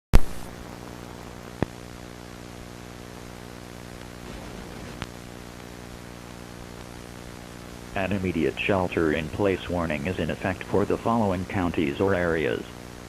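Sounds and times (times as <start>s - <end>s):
electrical hum: 0.2s - 13.0s
static hiss: 0.2s - 13.0s.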